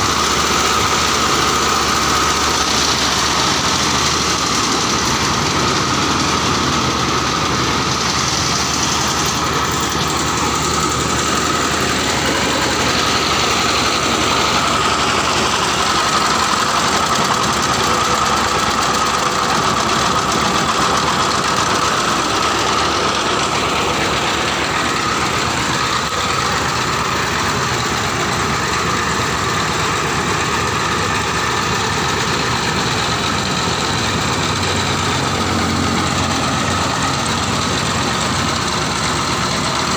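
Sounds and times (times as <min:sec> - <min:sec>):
grinder mill roaring: 0:00.0 - 0:39.9.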